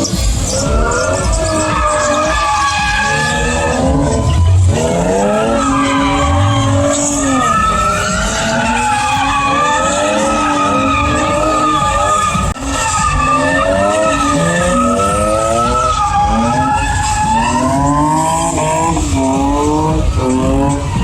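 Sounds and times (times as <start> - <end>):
car engine revving: 0.0 - 21.0
tire screech: 0.0 - 21.0.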